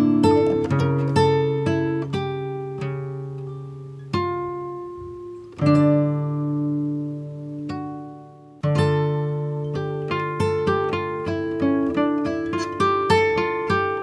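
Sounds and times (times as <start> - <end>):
plucked guitar notes and chords: 0.0 - 14.0.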